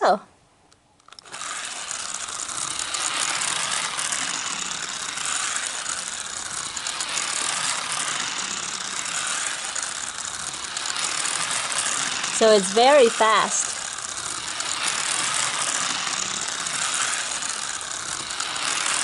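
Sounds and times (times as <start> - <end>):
toy car motor clicking whir: 1.0 - 19.0.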